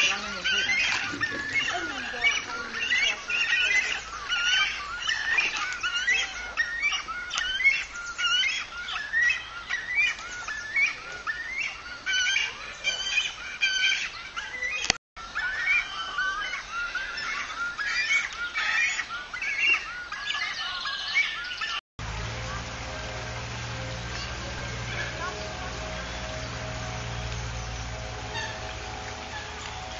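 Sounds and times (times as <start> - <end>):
chicks chirping calls: 0.0 - 22.9, 23.5 - 29.9.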